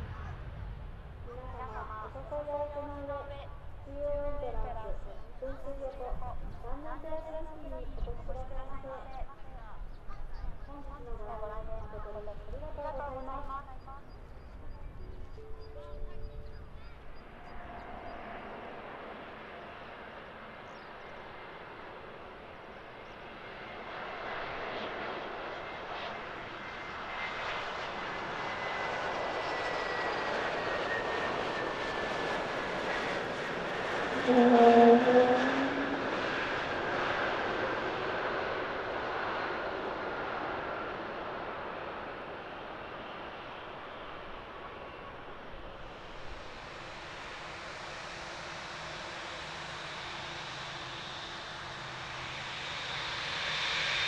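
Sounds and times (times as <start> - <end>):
jet airliner landing: 0.0 - 54.0.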